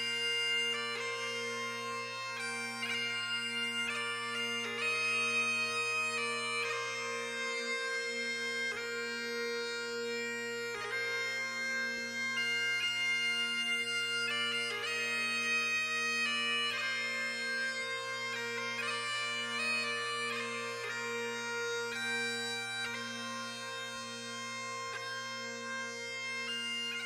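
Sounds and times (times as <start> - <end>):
bagpipe drones: 0.0 - 27.0
bagpipe melody: 0.0 - 27.0.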